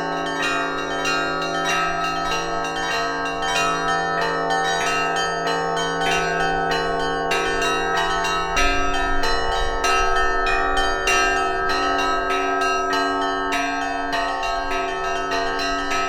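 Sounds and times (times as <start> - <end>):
larger bells steady tones: 0.0 - 16.0.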